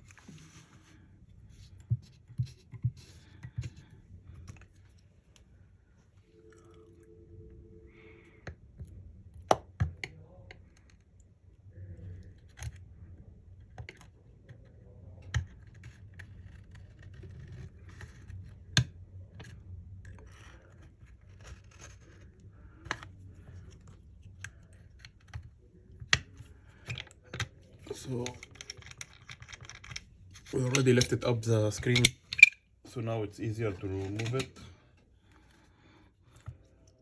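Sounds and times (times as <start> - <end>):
tools scraping against phone: 0.0 - 5.5, 11.8 - 32.7, 33.5 - 37.0.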